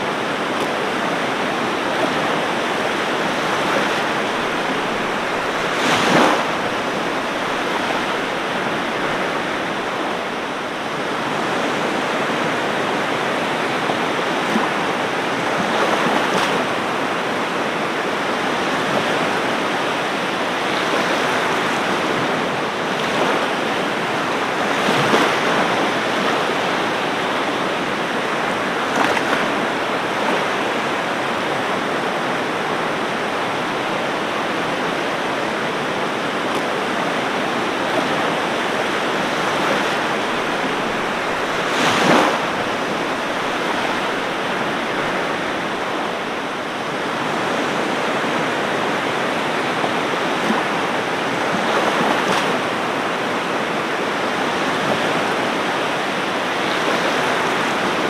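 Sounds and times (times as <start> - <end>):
ocean surf washing onto beach: 0.0 - 58.0
waves breaking: 0.0 - 58.0.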